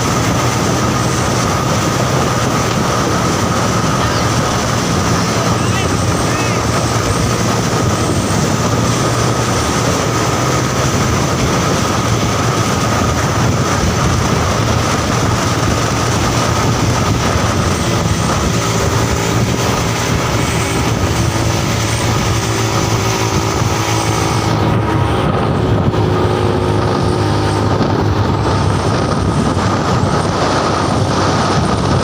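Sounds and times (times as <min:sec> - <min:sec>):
road and wind noise: 0:00.0 - 0:32.0
truck engine drone: 0:00.0 - 0:32.0.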